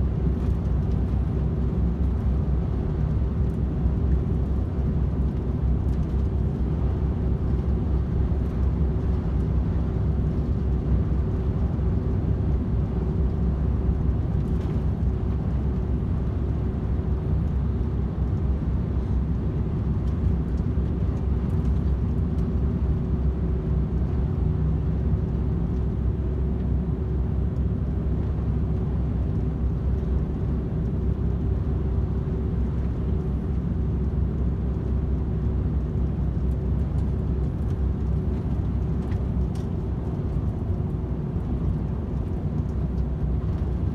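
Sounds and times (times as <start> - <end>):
constant low hum: 0.0 - 43.9
road rumble: 0.0 - 43.9.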